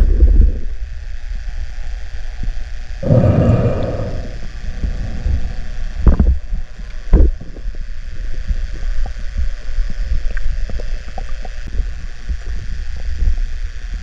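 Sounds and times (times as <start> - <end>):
underwater low rumble: 0.0 - 14.0.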